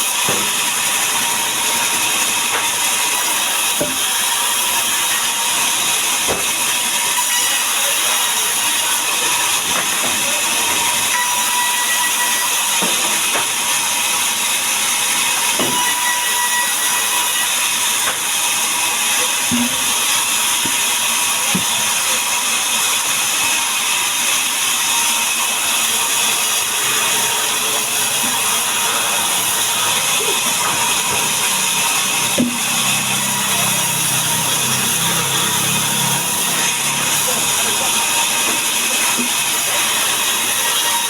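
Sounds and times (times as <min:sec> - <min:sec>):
sawing machinery running: 0:00.0 - 0:41.0.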